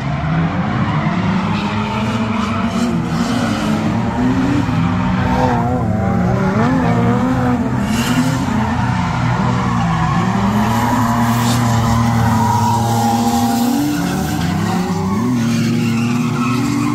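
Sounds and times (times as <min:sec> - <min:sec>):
car engines revving: 0:00.0 - 0:16.9.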